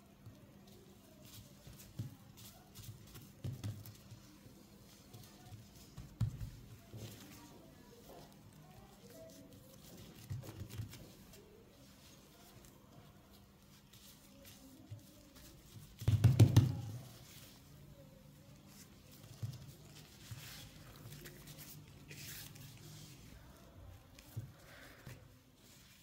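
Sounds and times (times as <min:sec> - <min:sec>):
hands patting dough: 0:00.2 - 0:26.0.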